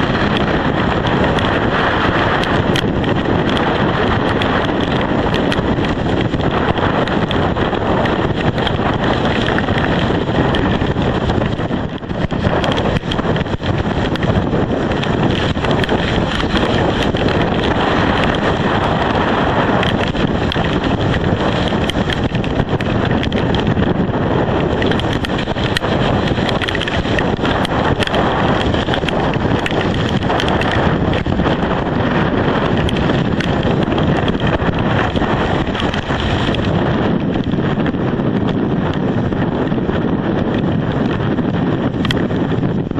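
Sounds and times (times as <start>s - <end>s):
storm wind buffeting microphone: 0.0s - 42.9s.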